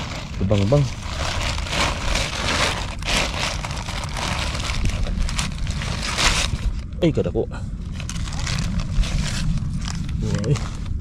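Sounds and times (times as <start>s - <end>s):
plastic bag crinkling: 0.0s - 6.9s, 7.9s - 11.0s
steady low rumble: 0.0s - 11.0s.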